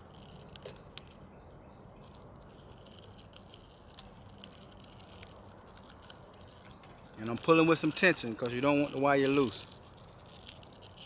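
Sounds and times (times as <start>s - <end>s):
light clicks of trimmer line winding: 2.1s - 11.0s.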